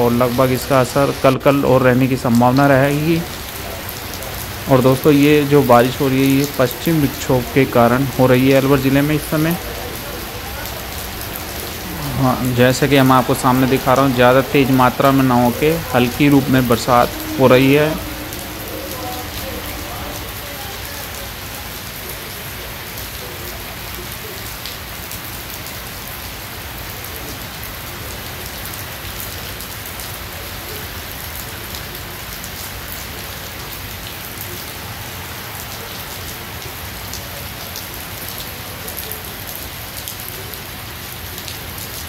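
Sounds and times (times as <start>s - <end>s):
light rain on wet pavement: 0.0s - 42.0s.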